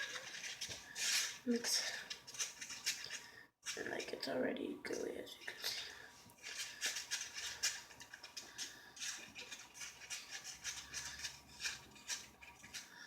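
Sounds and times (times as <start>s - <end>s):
slime squishing when stirred: 0.0s - 4.3s, 5.4s - 13.0s.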